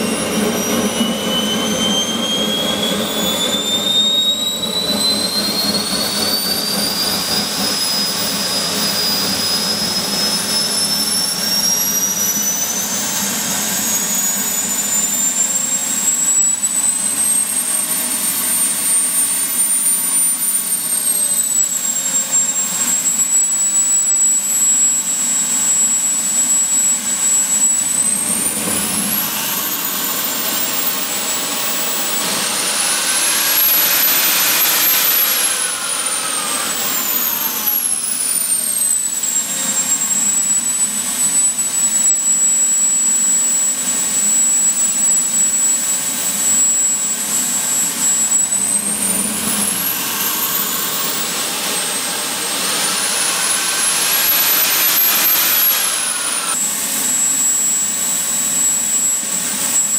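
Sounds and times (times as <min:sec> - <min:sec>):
model turbine engine whining: 0:00.0 - 0:59.9.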